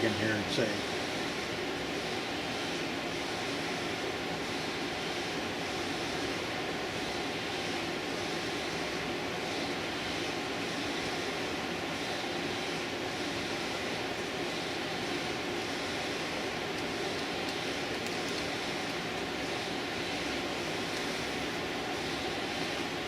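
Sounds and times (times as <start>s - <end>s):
mechanical drone with hiss: 0.0s - 23.0s.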